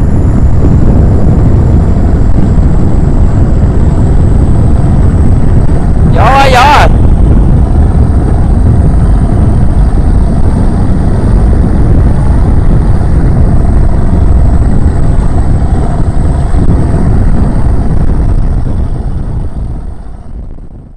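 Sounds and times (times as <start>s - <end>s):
boat engine running: 0.0s - 20.9s.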